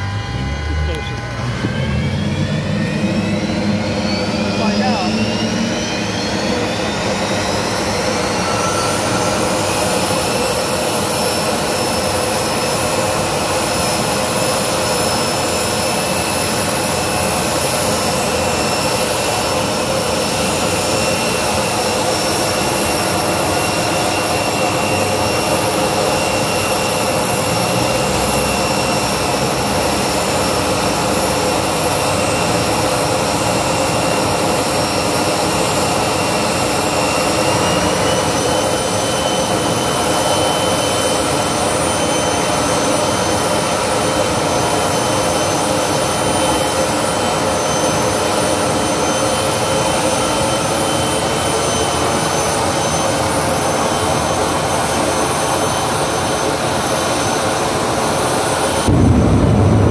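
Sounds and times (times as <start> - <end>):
jet engine roaring with turbine whine: 0.0 - 59.9.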